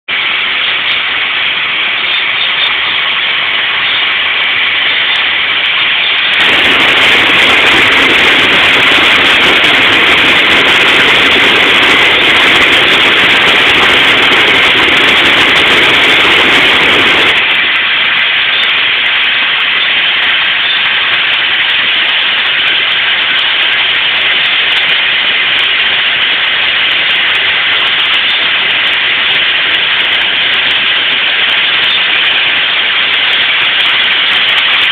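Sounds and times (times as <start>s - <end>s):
fire engine pump running: 0.0s - 34.9s
high-pressure water spray hissing: 0.0s - 34.9s.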